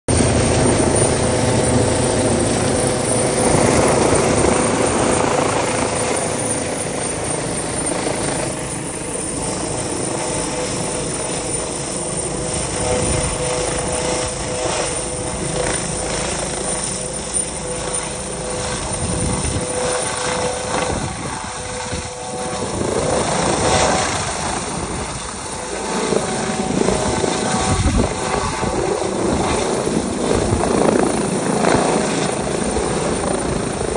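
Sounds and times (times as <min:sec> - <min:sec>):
helicopter rotor and turbine: 0:00.1 - 0:33.9.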